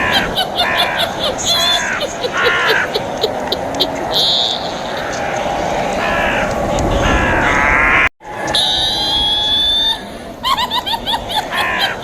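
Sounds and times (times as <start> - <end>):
shrill witch voice cackling: 0.0 - 7.8, 8.5 - 12.0.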